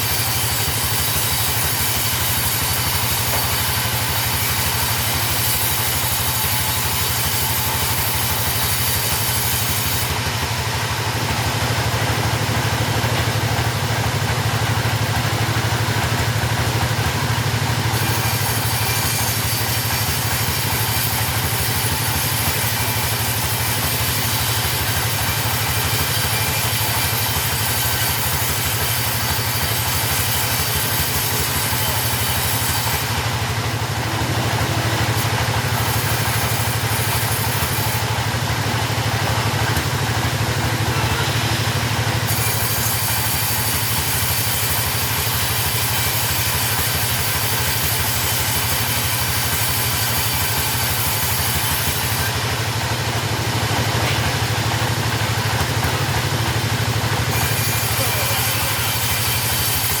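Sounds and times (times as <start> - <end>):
two-stroke chainsaw engine running: 0.0 - 60.0.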